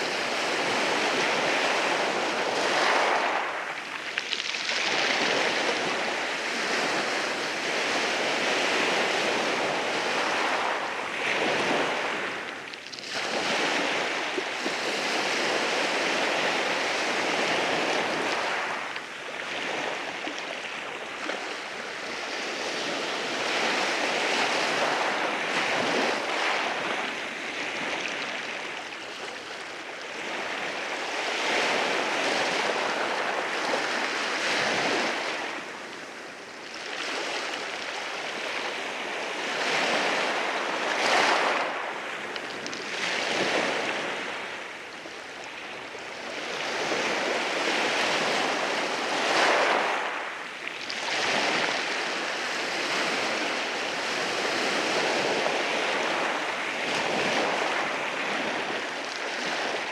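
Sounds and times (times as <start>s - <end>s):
waves washing over rocks: 0.0s - 59.9s.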